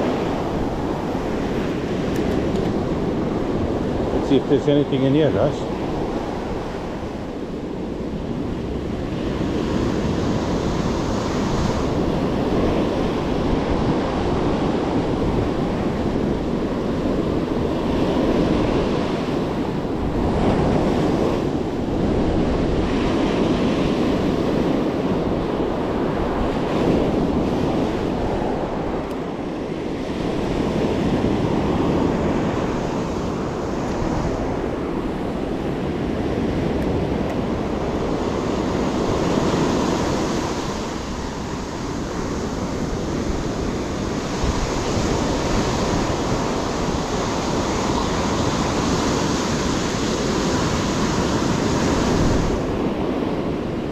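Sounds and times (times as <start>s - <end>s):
ocean surf breaking on beach: 0.0s - 53.9s
wind buffeting microphone: 0.0s - 53.9s.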